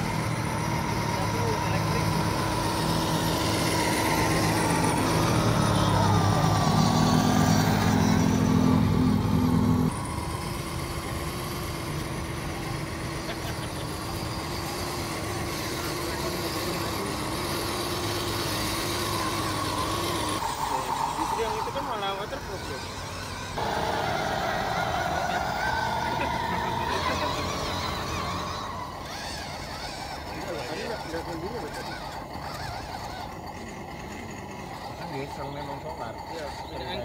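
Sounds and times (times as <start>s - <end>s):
mechanical motor hum: 0.0s - 37.0s.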